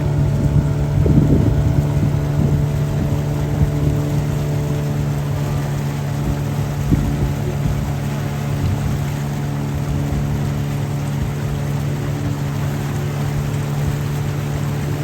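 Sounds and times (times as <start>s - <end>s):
motorboat engine running: 0.0s - 15.0s
water and wind rushing: 0.0s - 15.0s.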